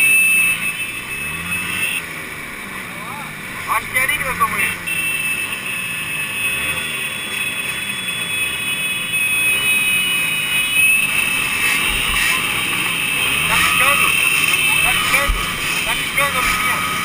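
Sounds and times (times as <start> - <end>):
two-stroke motorcycle engines revving: 0.0 - 17.0.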